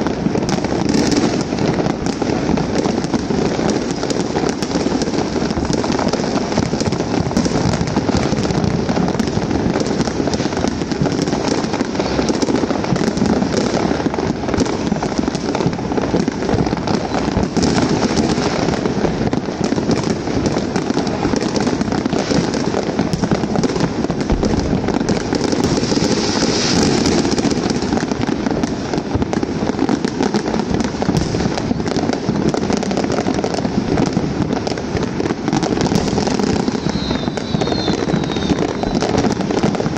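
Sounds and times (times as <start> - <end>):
fireworks and firecrackers crackling: 0.0 - 39.9.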